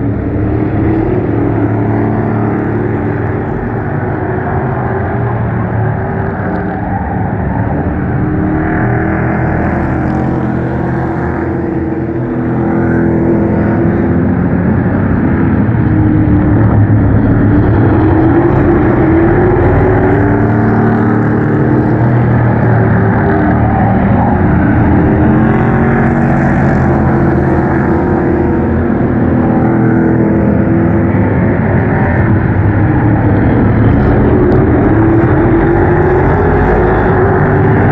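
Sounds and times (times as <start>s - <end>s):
race truck engines running hard: 0.0s - 37.9s.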